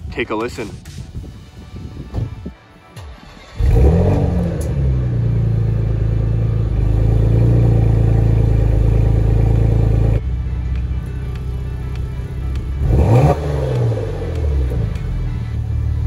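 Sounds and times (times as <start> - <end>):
car engine idling: 3.0 - 16.0.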